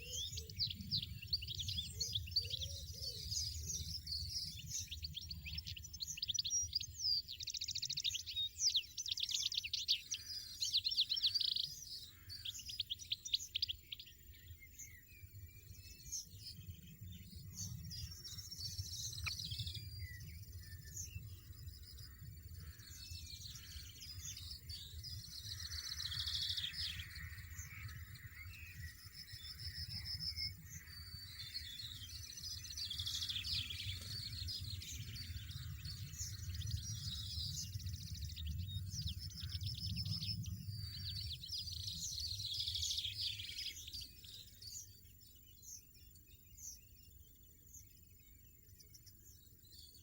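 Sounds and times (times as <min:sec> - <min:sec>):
finches twittering: 0:00.0 - 0:50.0.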